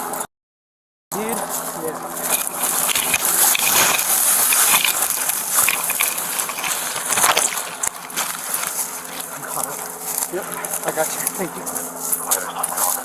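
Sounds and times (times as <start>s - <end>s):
footsteps through undergrowth: 1.2s - 13.0s.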